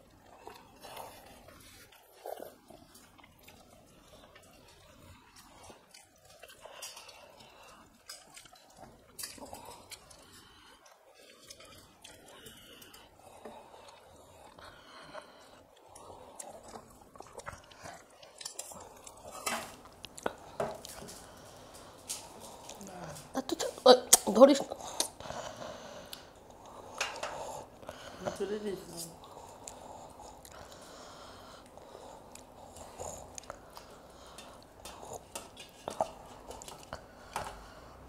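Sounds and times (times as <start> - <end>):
people chewing: 0.0 - 38.0.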